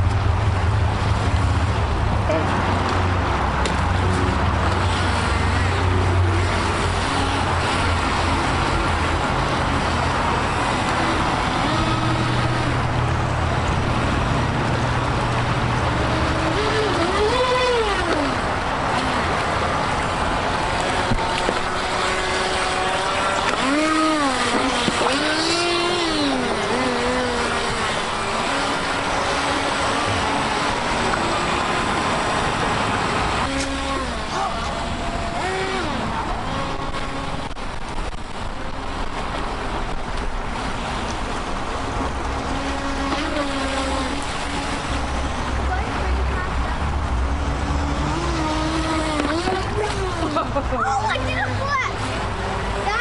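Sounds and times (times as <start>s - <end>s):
creek water rushing: 0.0s - 53.0s
small electric boat motors whining: 3.7s - 53.0s.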